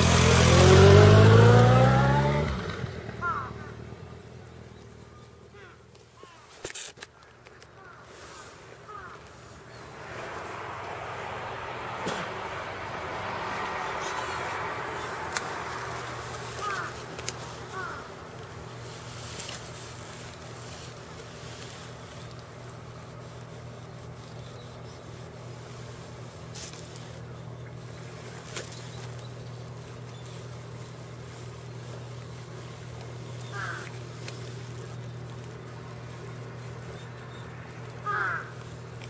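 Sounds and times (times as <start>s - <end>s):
distant motor hum: 0.0s - 6.5s, 7.1s - 39.0s.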